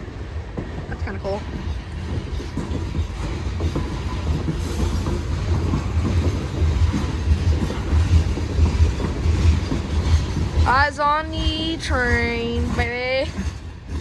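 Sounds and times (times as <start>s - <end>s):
train cars rumbling past: 0.0s - 14.0s
wheels clicking over rails: 0.1s - 14.0s.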